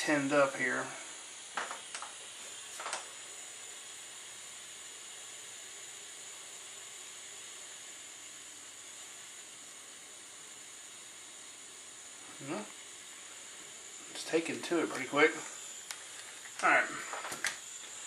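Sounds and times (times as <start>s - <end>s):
gas soldering iron hissing: 0.0s - 18.0s.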